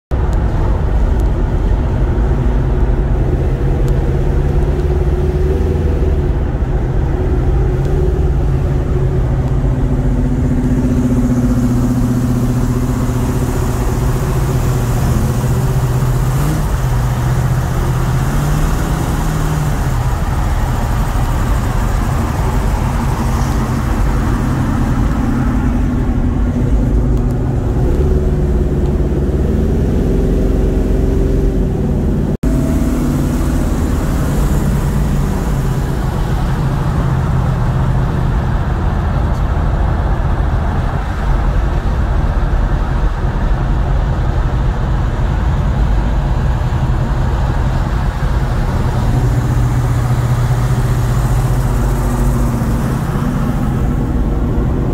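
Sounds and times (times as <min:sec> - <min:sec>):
car engine droning: 0:00.1 - 0:54.9
road and wind noise: 0:00.1 - 0:54.9.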